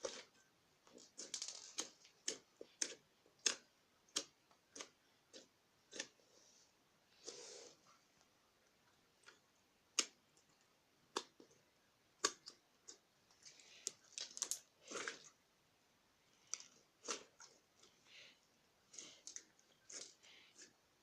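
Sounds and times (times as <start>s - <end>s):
slime squelching: 0.0s - 21.0s.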